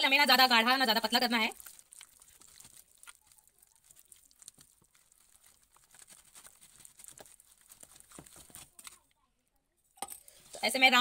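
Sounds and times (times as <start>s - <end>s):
hand beating batter in a bowl: 0.0s - 9.1s.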